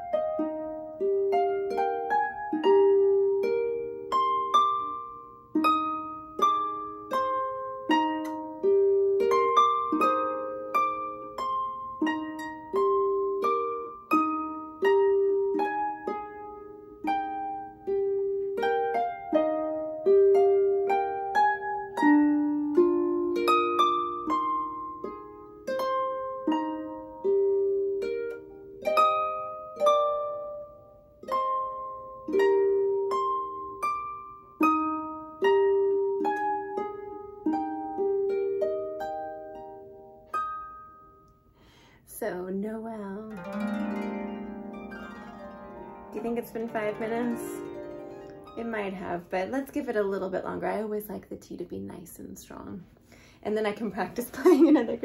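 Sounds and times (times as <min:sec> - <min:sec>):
harp playing a carol: 0:00.0 - 0:41.8, 0:42.9 - 0:51.2, 0:53.5 - 0:55.0.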